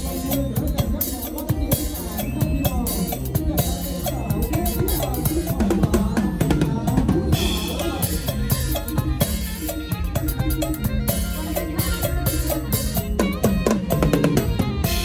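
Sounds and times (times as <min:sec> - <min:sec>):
bass: 0:00.0 - 0:15.0
cymbals: 0:00.0 - 0:15.0
drum kit playing fast groove: 0:00.0 - 0:15.0.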